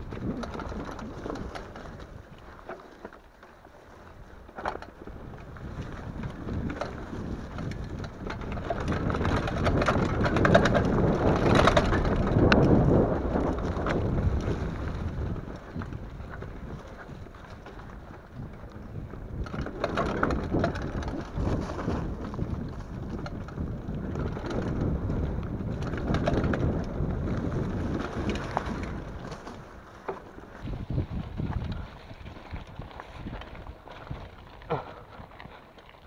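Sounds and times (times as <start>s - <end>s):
bike rattles and knocks: 0.0s - 36.0s
bike tyres on dirt: 0.0s - 36.0s.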